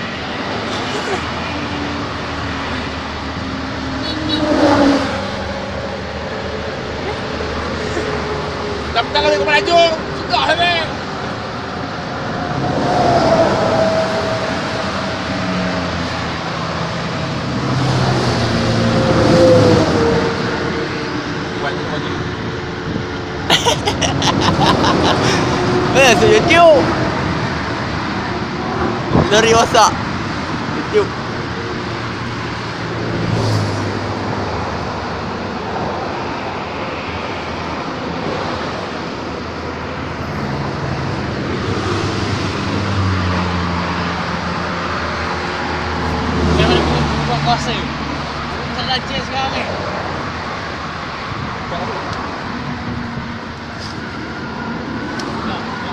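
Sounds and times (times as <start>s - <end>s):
road and engine noise: 0.0s - 55.9s.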